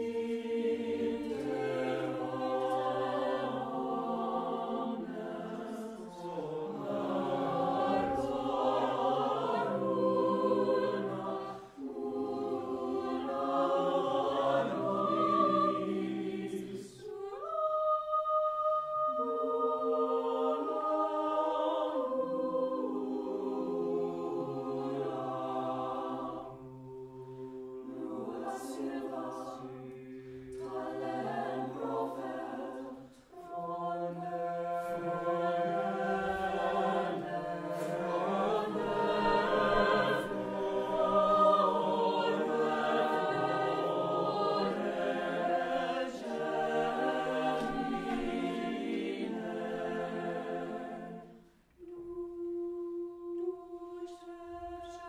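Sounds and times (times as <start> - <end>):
choir singing chords: 0.0 - 55.0.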